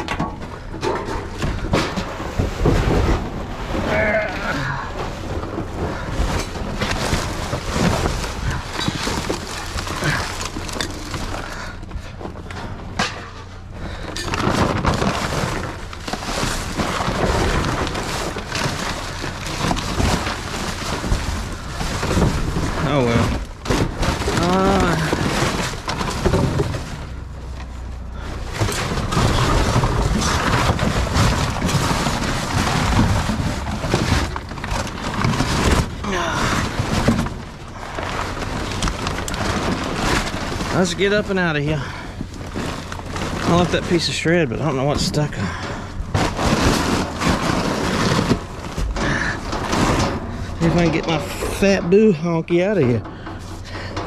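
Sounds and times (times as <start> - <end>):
low steady rumble: 0.0 - 54.0
rummaging through trash: 0.0 - 54.0.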